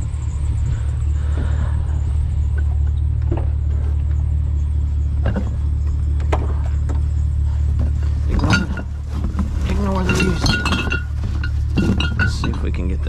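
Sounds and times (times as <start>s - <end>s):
vehicle engine idling: 0.0s - 13.0s
light knocks and clinks: 2.4s - 12.9s.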